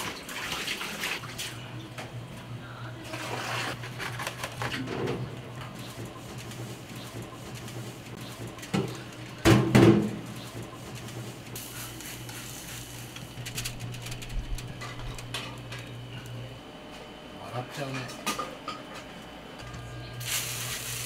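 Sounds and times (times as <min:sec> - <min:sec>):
steady low hum: 0:01.4 - 0:21.0.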